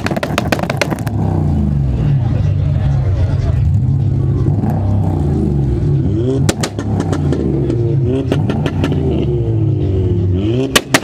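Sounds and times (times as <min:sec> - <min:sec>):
exhaust cracks: 0:00.0 - 0:02.4, 0:03.1 - 0:09.2, 0:10.6 - 0:11.0
car engine revving: 0:00.0 - 0:11.0.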